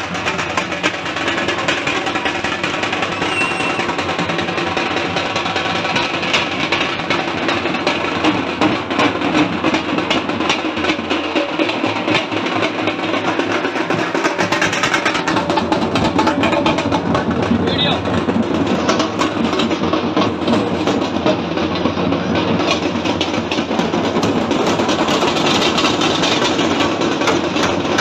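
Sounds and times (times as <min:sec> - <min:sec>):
fast dense drumming: 0:00.0 - 0:28.0.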